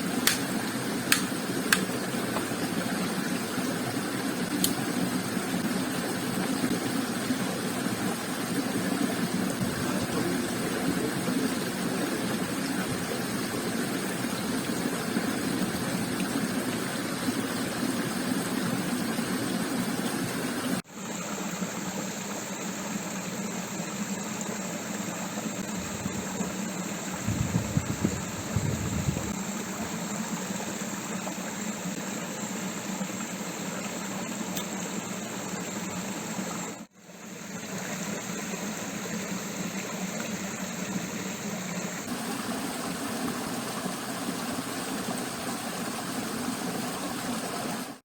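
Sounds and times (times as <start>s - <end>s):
creek water rushing: 0.0s - 48.0s.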